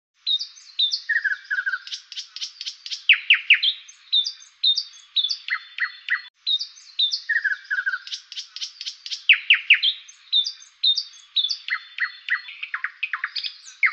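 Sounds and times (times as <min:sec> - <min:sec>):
songbird chirping and whistling: 0:00.2 - 0:13.9.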